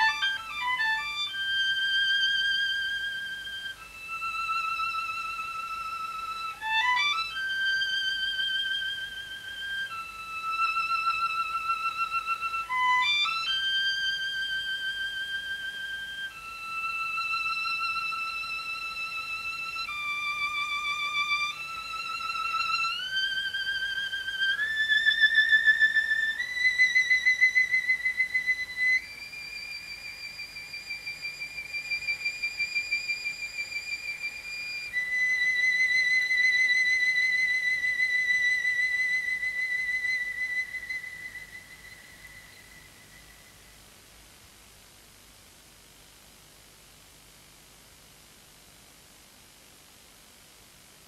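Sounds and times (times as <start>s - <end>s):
solo violin playing: 0.0s - 43.2s.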